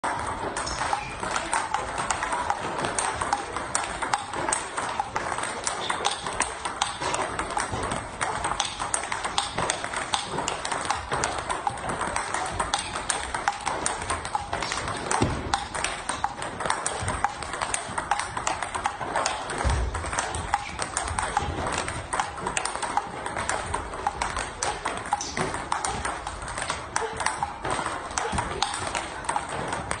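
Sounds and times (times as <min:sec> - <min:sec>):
table tennis balls clicking: 0:00.0 - 0:30.0.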